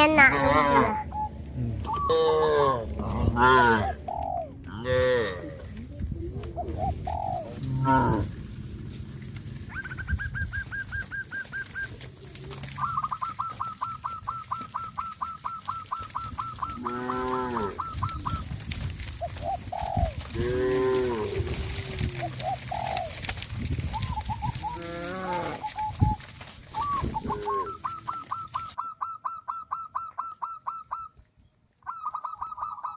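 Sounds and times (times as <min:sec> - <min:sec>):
drawn-out rising and falling calls: 0:00.0 - 0:05.7, 0:06.5 - 0:31.2, 0:31.8 - 0:32.9.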